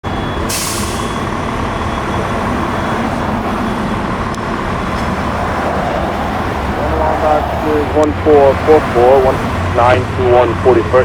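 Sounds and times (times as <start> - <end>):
heavy vehicles running: 0.0 - 11.0.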